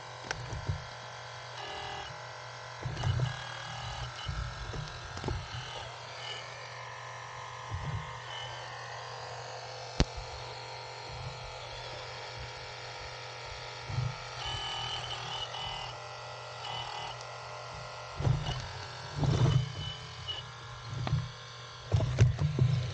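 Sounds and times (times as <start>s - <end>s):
electric motor and pump whining: 0.0s - 22.9s.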